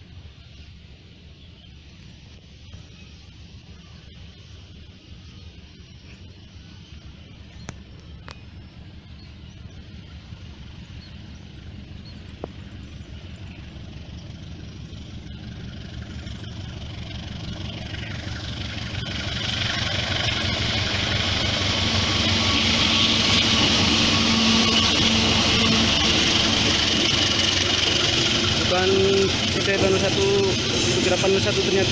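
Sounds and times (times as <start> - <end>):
locomotive engine drone: 0.0 - 31.9
wheels rushing on rails: 0.0 - 31.9.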